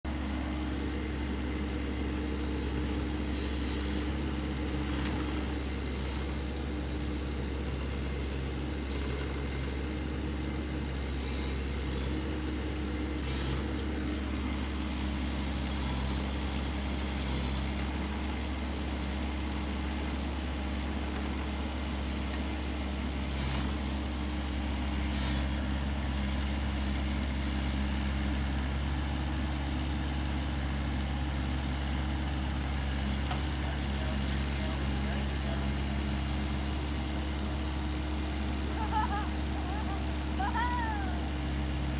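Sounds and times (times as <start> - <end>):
excavator engine running: 0.0 - 41.9.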